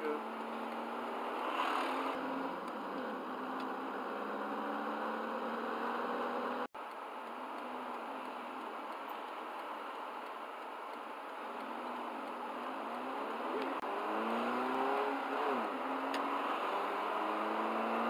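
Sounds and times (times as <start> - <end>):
road and engine noise inside car: 0.0 - 18.0.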